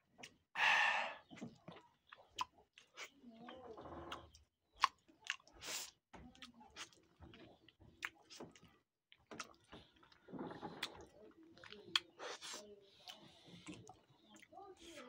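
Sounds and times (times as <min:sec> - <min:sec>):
lip smacks and chewing: 0:00.2 - 0:00.4, 0:01.2 - 0:15.0.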